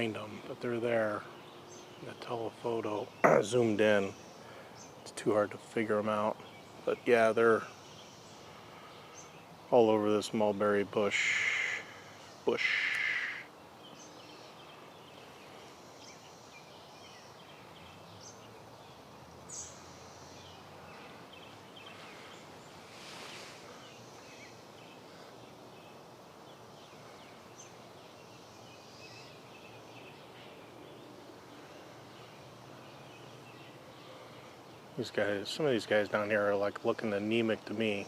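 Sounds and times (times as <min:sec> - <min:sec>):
bird chirps: 0:00.0 - 0:38.0
steady background hiss: 0:00.0 - 0:38.0.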